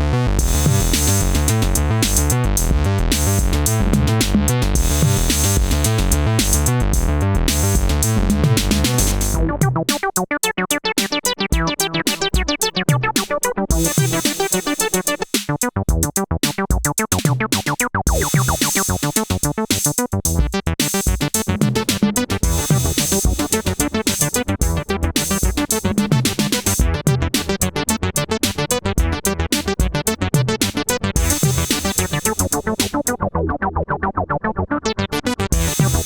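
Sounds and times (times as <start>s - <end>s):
synthesizer bass line: 0.0s - 36.0s
drum machine beat: 0.4s - 33.2s, 35.5s - 36.0s.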